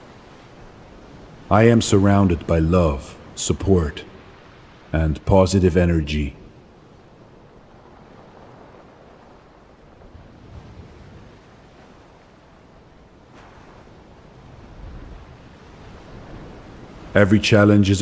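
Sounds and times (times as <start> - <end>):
soft steady rushing noise: 0.0 - 10.6, 12.6 - 18.0.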